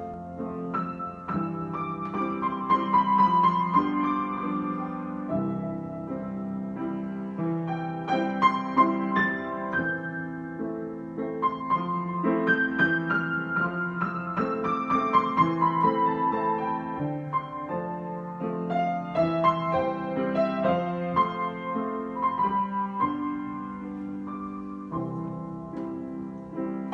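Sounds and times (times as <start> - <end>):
solo piano: 0.0 - 26.9.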